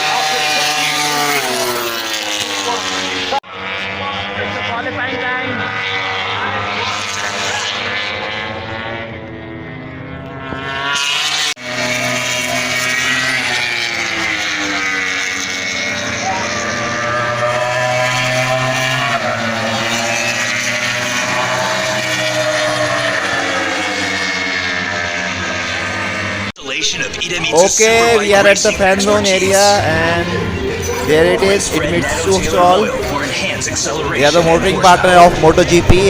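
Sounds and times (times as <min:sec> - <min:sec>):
racing motorcycles passing: 0:00.0 - 0:36.0.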